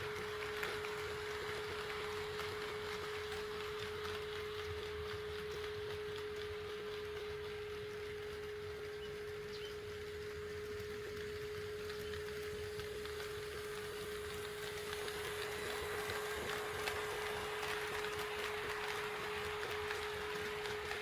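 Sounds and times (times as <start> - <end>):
model train rolling on track: 0.0 - 21.0
steady high-pitched hum: 0.0 - 21.0.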